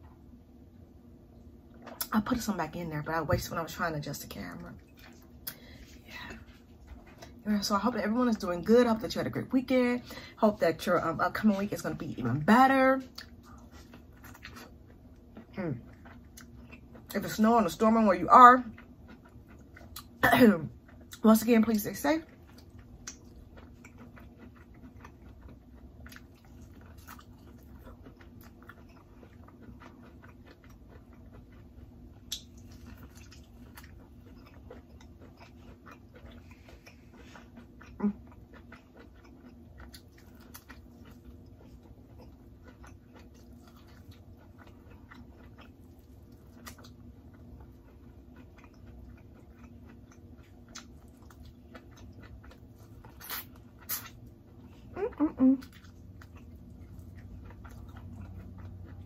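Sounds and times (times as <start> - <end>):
faint steady hum: 0.0 - 59.0
chewing and lip-smacking: 1.4 - 59.0.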